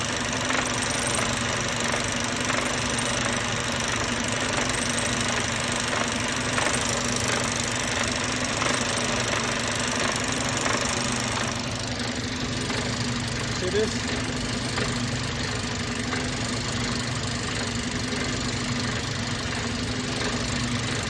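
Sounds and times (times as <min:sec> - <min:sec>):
engine idling: 0:00.0 - 0:21.0
faint engine knock: 0:00.0 - 0:21.0.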